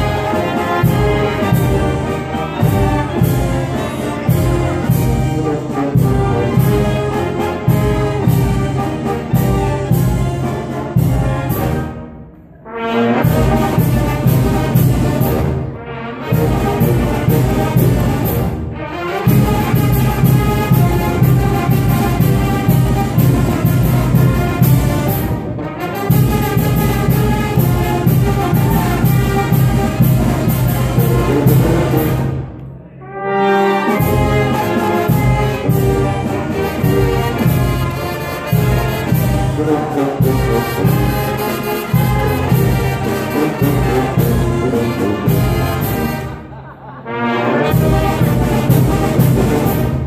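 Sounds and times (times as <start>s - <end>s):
brass band playing dance music: 0.0s - 50.0s.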